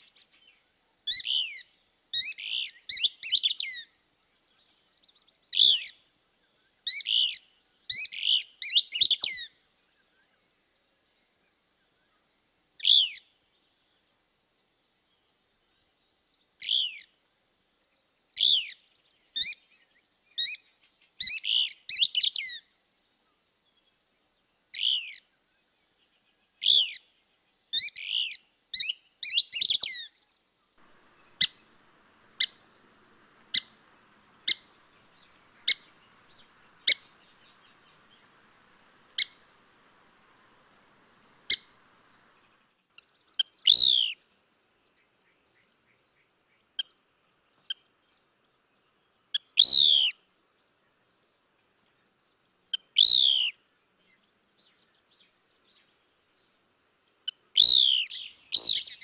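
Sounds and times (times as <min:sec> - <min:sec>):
bird chirping: 0:00.0 - 0:13.9, 0:15.1 - 0:47.0, 0:49.4 - 0:50.2, 0:52.7 - 0:56.7, 0:57.3 - 0:59.0.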